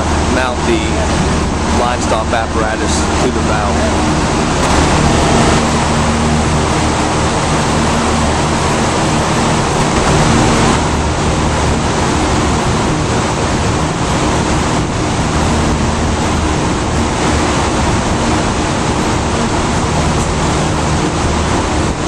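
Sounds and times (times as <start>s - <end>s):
cooling fans rushing: 0.0s - 22.0s
low hum: 0.0s - 22.0s.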